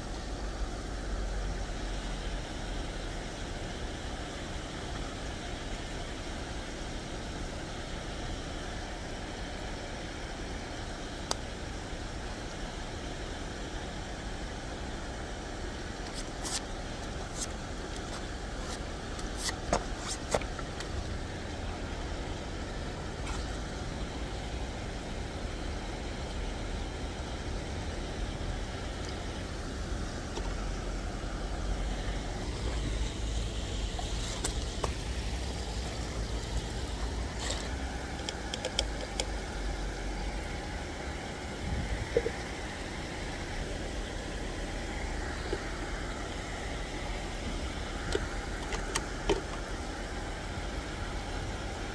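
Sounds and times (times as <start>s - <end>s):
low outdoor rumble: 0.0s - 51.9s.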